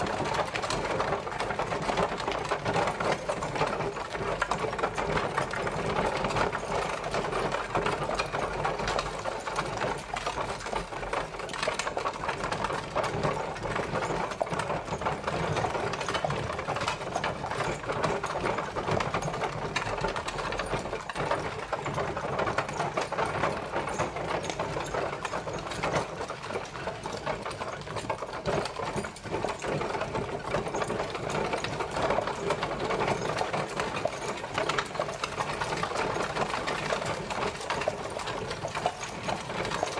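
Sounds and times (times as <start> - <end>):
horse-drawn carriage rattling: 0.0 - 39.9.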